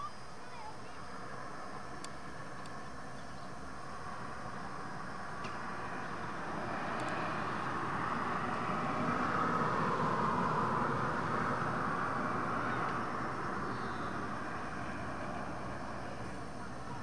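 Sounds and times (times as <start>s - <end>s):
distant engine rush: 0.0s - 17.0s.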